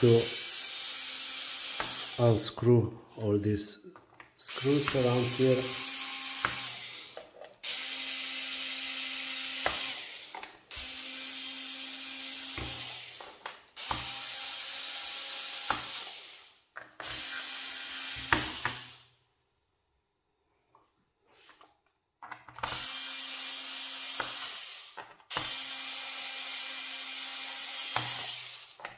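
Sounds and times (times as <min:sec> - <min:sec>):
electric screwdriver running: 0:00.0 - 0:02.6, 0:04.5 - 0:19.1, 0:22.6 - 0:28.9.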